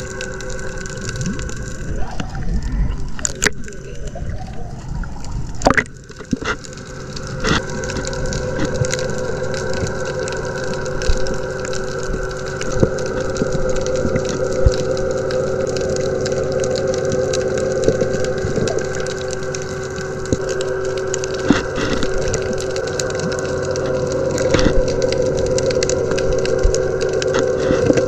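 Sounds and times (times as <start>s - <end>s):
underwater droning hum: 0.0s - 28.0s
wash of noise: 0.0s - 28.0s.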